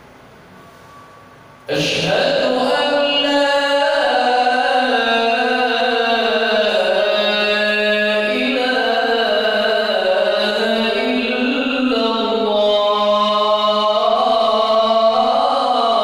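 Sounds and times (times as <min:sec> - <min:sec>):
man singing call to prayer: 0:01.7 - 0:16.0.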